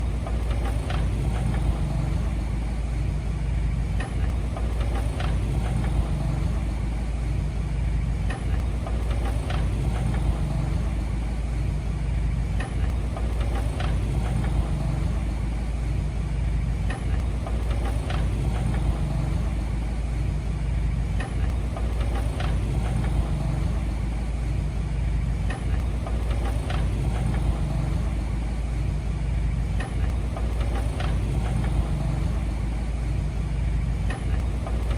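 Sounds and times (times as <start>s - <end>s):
heavy machinery diesel engine: 0.0s - 34.9s.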